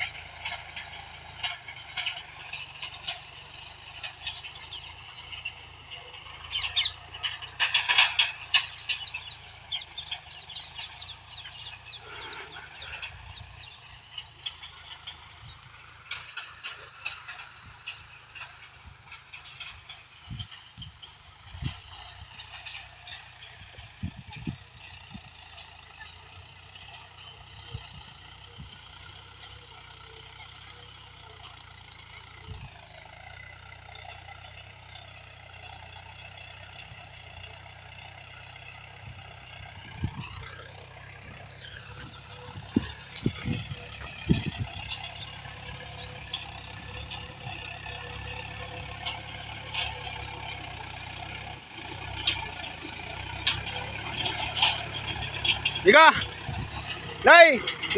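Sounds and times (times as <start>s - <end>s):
sharp knocks and rattles: 0.0s - 57.9s
tractor diesel engine revving: 0.0s - 57.9s.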